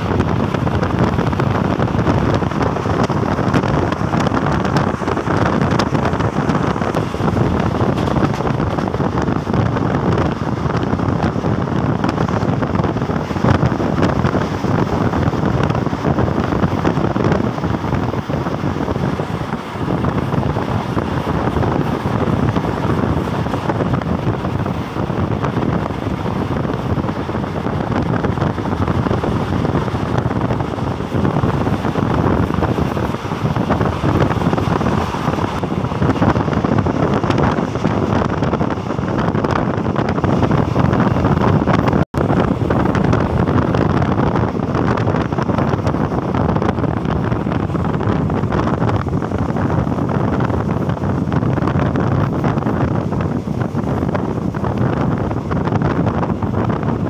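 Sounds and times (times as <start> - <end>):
train running noise: 0.0 - 57.0
wind buffeting microphone: 0.0 - 57.0.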